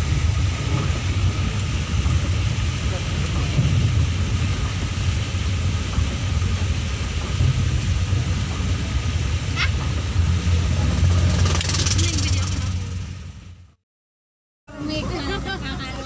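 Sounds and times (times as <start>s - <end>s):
rain and wet tyres hiss: 0.0s - 13.7s, 14.7s - 16.0s
engine and road rumble: 0.0s - 13.8s, 14.7s - 16.0s.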